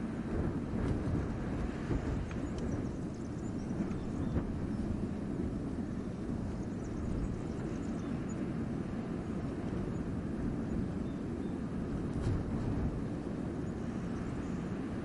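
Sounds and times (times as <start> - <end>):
wind blowing through forest: 0.0 - 15.0.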